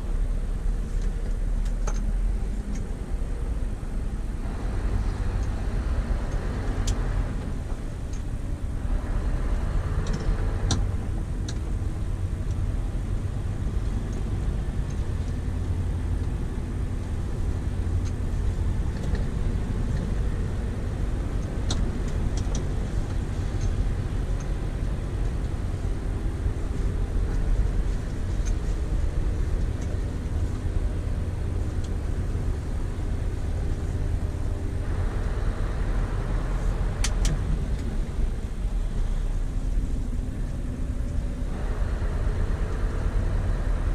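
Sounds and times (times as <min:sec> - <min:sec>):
truck engine drone from cab: 0:00.0 - 0:43.9.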